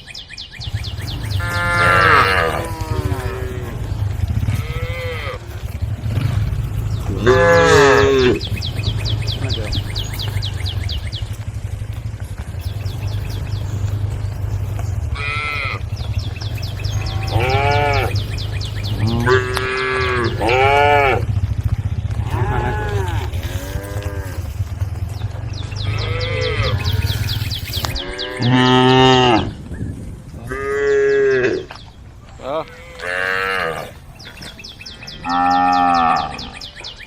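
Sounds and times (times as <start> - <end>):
cows mooing: 0.7 - 29.6, 30.4 - 31.8, 32.4 - 34.0, 35.1 - 36.7.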